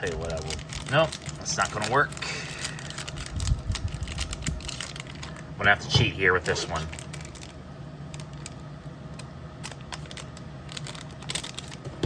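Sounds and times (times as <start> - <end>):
card pack wrapper crinkling: 0.0 - 12.0
steady low hum: 0.0 - 12.0.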